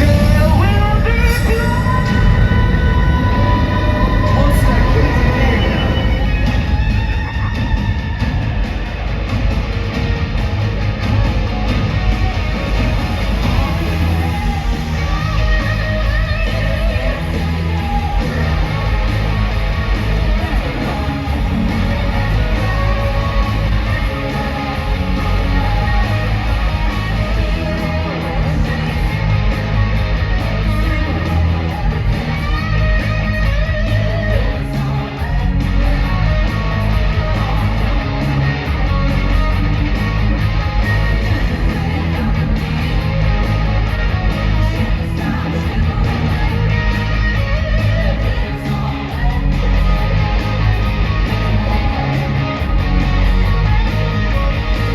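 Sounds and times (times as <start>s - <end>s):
heavy rock music: 0.0s - 54.9s.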